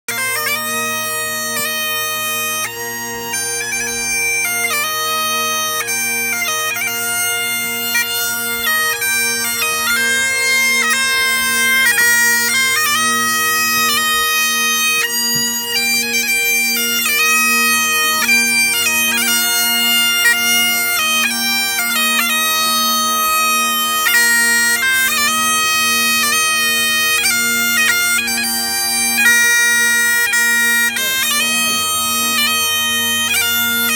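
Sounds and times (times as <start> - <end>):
bagpipes playing: 0.1 - 33.9.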